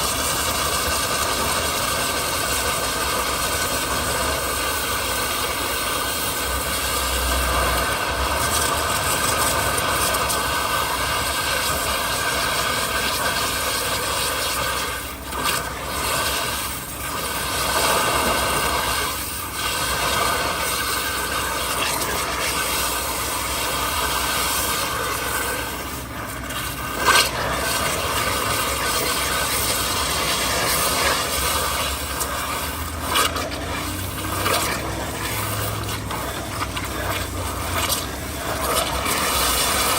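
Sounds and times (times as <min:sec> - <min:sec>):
car wash spray hissing: 0:00.0 - 0:39.9.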